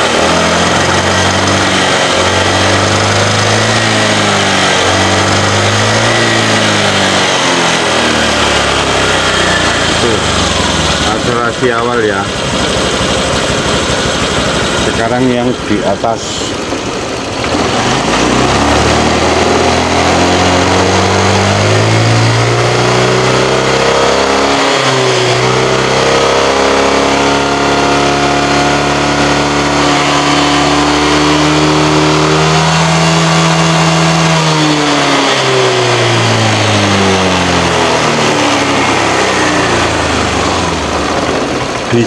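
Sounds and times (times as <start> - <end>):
scooter engine revving: 0.0 - 42.0.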